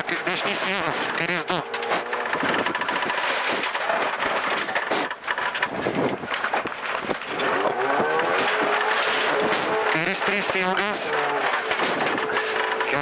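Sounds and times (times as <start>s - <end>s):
car engine revving: 0.0s - 5.0s, 7.1s - 13.0s
gravel clattering against underbody: 0.0s - 13.0s.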